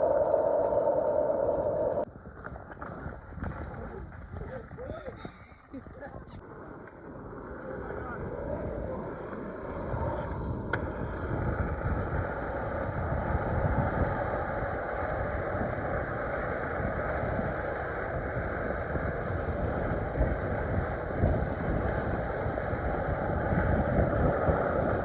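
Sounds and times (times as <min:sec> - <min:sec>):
skateboard wheels rolling on concrete: 0:00.0 - 0:25.0.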